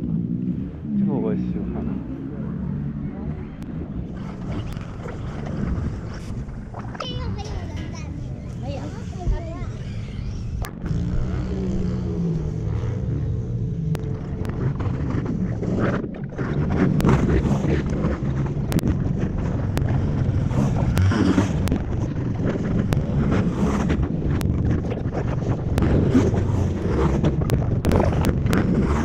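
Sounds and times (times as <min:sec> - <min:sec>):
distant dirt bike engines revving: 0:00.0 - 0:29.0
wind buffeting microphone: 0:00.0 - 0:29.0.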